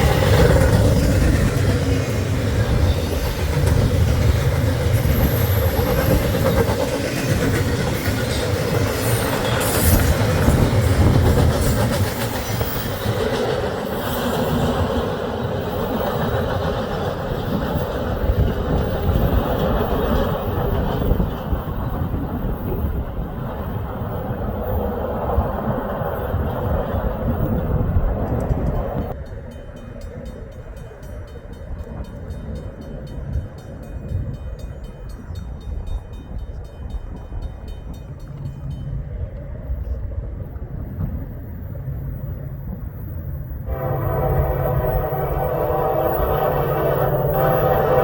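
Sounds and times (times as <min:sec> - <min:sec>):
freight train wheels rumbling: 0:00.0 - 0:48.0.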